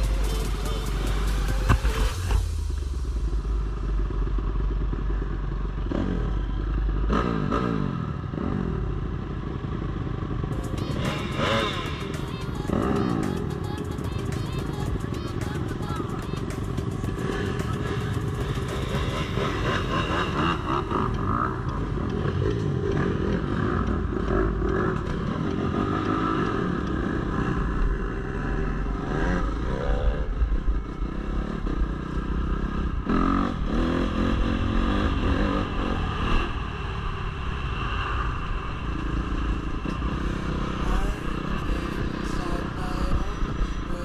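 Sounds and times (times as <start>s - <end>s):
dirt bike engine revving: 3.4s - 44.0s.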